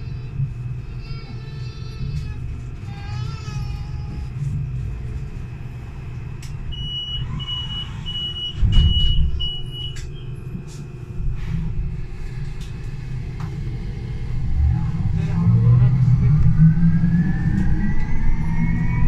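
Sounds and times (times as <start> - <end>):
bus low rumble: 0.0 - 19.0.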